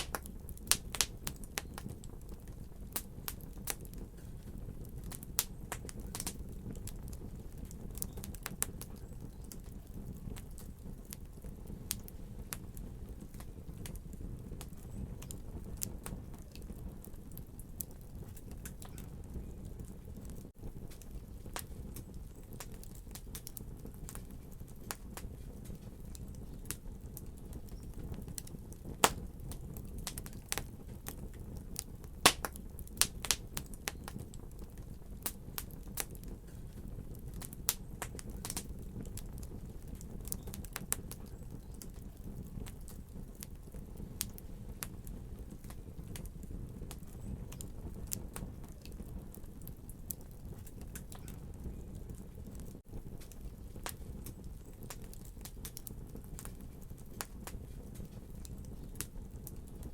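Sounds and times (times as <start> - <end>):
fire crackling and popping: 0.0 - 59.9.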